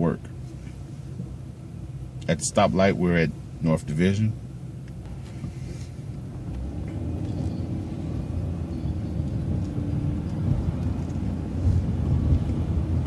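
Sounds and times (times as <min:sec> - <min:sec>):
bus engine rumbling: 0:00.0 - 0:13.0.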